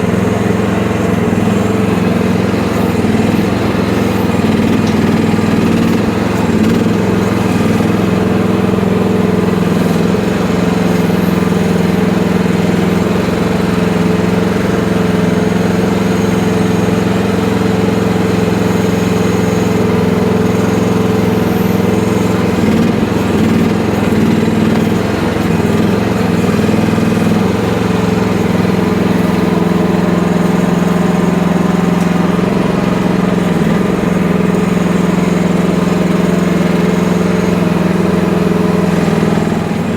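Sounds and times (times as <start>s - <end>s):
small excavator engine running: 0.0s - 39.9s.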